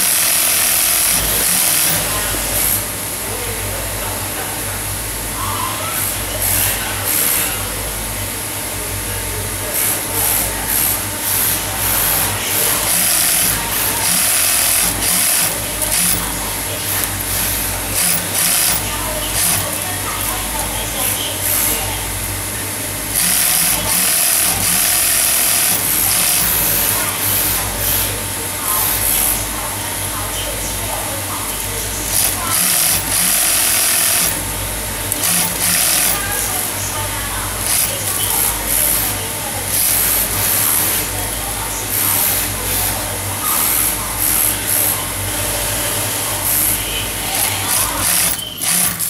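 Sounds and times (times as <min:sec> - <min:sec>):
sewing machine running: 0:00.0 - 0:03.4, 0:05.7 - 0:08.1, 0:09.6 - 0:49.0.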